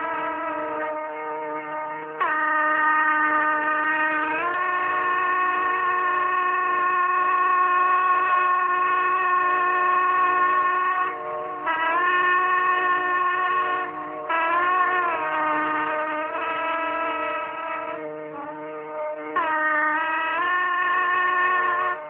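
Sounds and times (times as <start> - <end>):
music of long held notes: 0.0 - 22.0.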